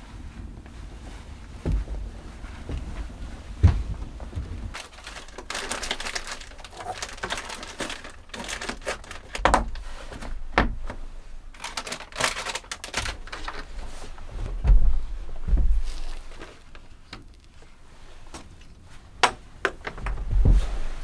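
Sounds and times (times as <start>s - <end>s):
crinkling and rustling handling: 0.0s - 21.0s.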